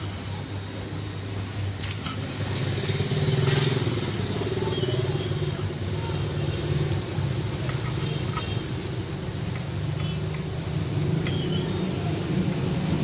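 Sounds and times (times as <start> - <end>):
small motorcycle engine running: 2.0 - 13.0.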